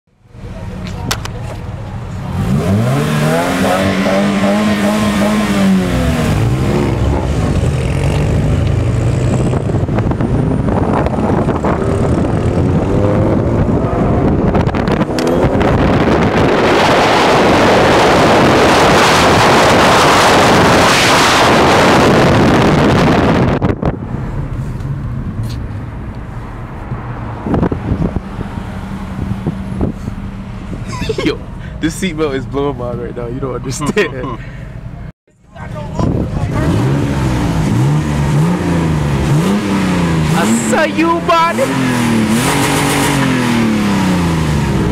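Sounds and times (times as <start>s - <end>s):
road noise: 0.1s - 44.9s
car engines revving: 0.2s - 44.9s.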